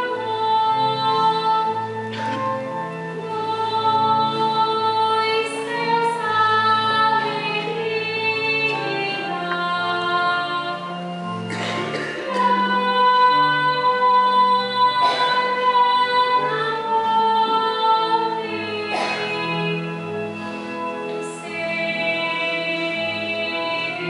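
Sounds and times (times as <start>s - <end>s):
sacred singing with accompaniment: 0.0s - 20.4s, 21.0s - 24.0s.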